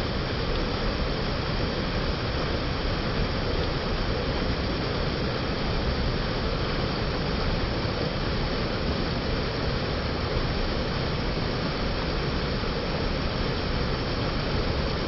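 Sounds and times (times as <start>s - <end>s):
mountain creek rushing: 0.0s - 15.0s.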